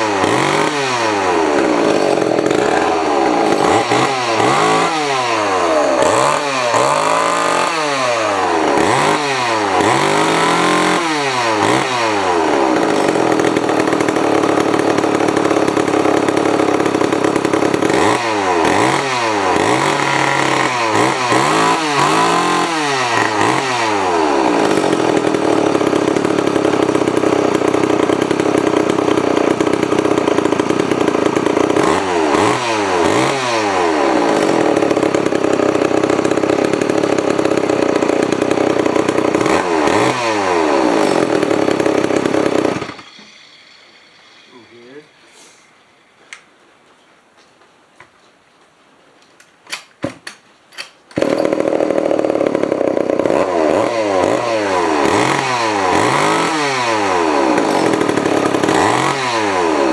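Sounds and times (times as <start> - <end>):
chainsaw engine revving: 0.0 - 46.4, 51.1 - 59.9.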